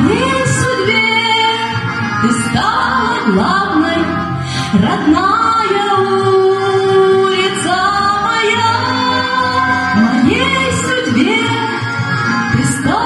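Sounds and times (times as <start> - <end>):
instrumental accompaniment: 0.0 - 13.0
woman singing into a microphone: 0.0 - 13.0.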